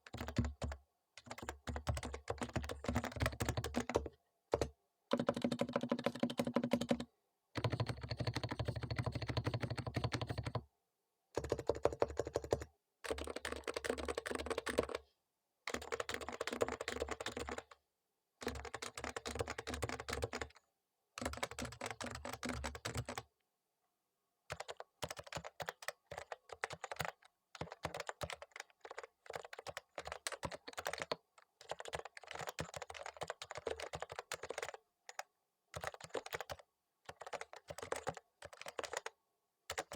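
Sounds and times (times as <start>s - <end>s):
keyboard typing: 0.1s - 10.6s, 11.4s - 15.0s, 15.7s - 17.8s, 18.4s - 20.6s, 21.2s - 23.2s, 24.5s - 39.9s.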